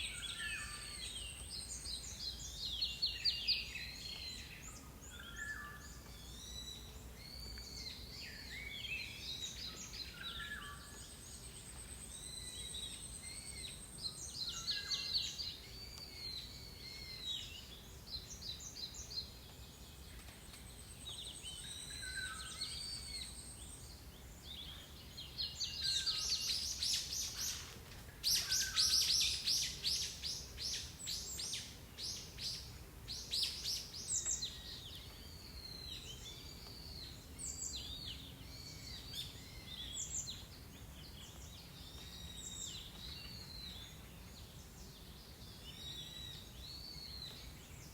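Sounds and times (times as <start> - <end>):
songbirds dawn chorus: 0.0 - 47.9.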